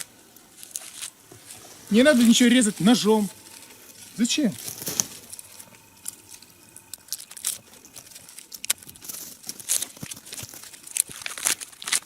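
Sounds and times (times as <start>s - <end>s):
bark crackling and tearing: 0.0s - 12.0s.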